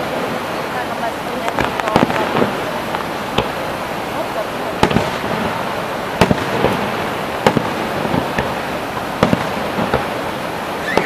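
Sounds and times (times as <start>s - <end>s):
fireworks bursting with sharp bangs: 0.0s - 11.0s
steady background noise: 0.0s - 11.0s.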